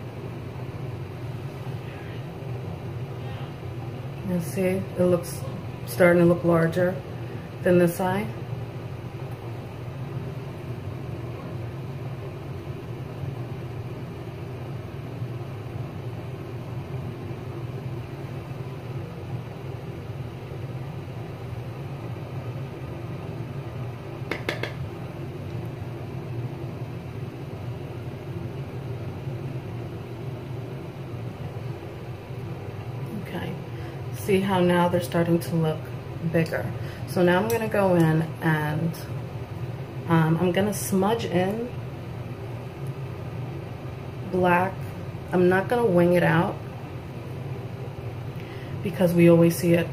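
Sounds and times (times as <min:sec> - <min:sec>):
low room hum: 0:00.0 - 0:49.9.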